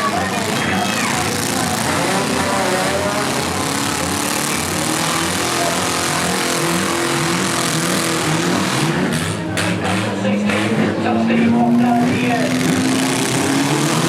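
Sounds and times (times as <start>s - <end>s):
car engines running and revving: 0.0s - 14.0s.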